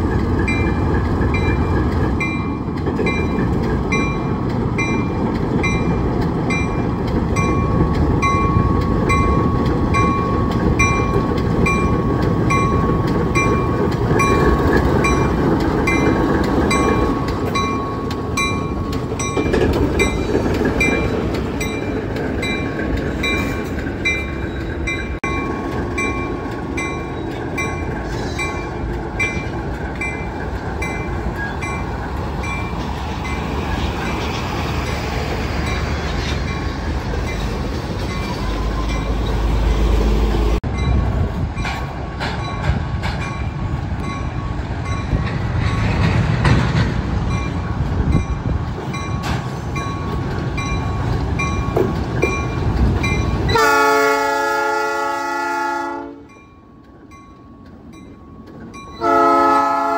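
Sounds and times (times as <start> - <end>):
rolling rumble of cars: 0.0 - 55.2
diesel locomotive under load: 0.0 - 59.9
regular clicking from train: 0.0 - 59.9.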